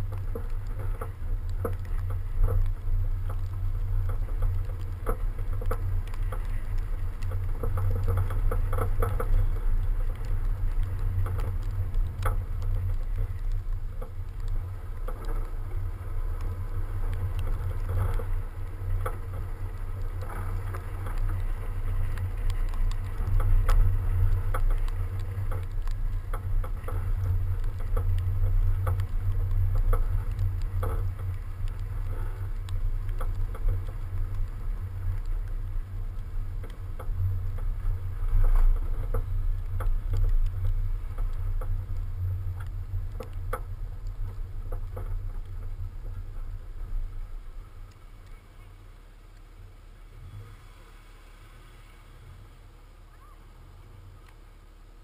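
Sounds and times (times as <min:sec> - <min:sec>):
ice ticking against car body: 0:00.0 - 0:50.0
tyres rolling on snow: 0:00.0 - 0:55.0.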